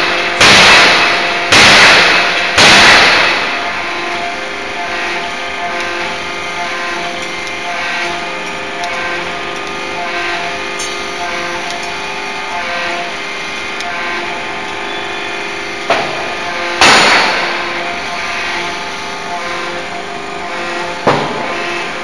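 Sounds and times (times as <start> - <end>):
forging hammer heavy blows: 0.0 - 11.7, 15.8 - 22.0
machinery humming: 0.0 - 22.0.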